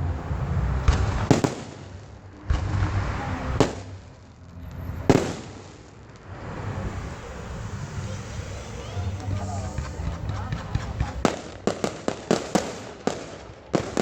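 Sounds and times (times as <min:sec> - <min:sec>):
fireworks bangs with echo: 0:00.3 - 0:14.0.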